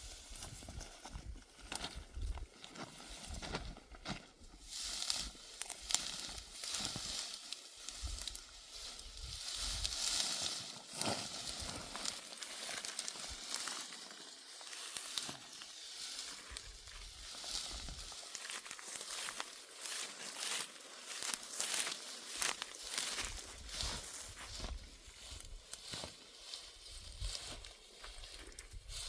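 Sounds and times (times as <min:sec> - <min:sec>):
dry stalks rustling and crackling: 0:00.0 - 0:29.0.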